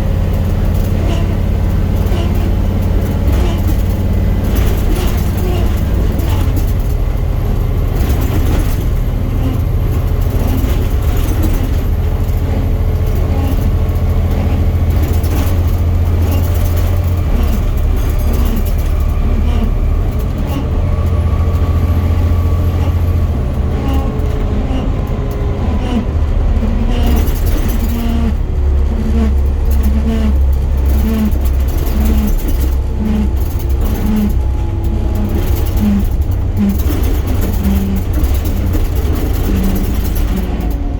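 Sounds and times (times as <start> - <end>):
bus engine drone: 0.0 - 40.9
pulsing axle noise: 0.0 - 40.9.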